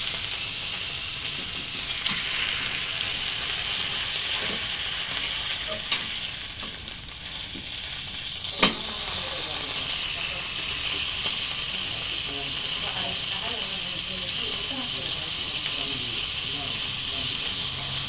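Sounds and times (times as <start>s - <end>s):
steak sizzling in a pan: 0.0s - 18.0s.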